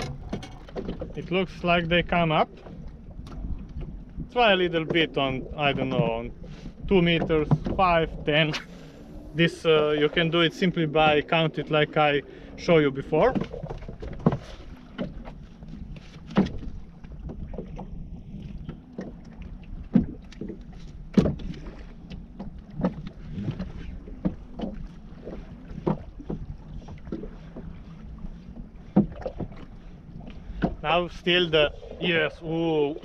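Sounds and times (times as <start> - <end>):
water slapping boat hull: 0.0 - 33.0
wind rumble: 0.0 - 33.0.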